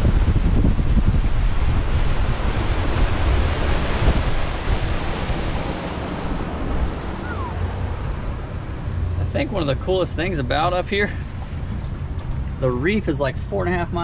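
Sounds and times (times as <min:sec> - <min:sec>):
water rushing past boat hull: 0:00.0 - 0:14.0
wind buffeting microphone: 0:00.0 - 0:14.0.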